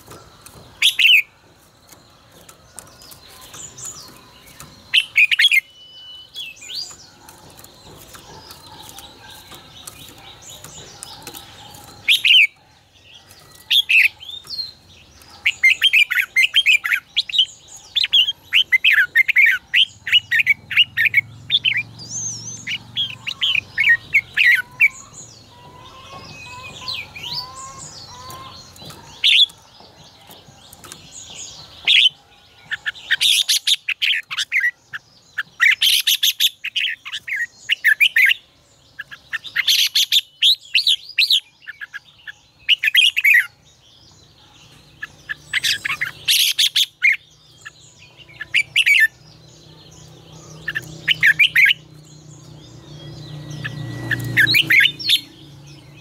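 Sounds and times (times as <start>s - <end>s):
bulbuls singing: 0.0s - 56.0s.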